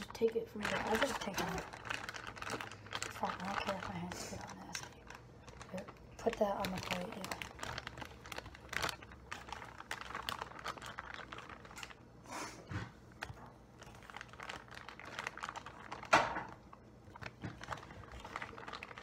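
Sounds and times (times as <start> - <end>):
plastic bag crinkling: 0.0 - 12.2, 13.0 - 19.0.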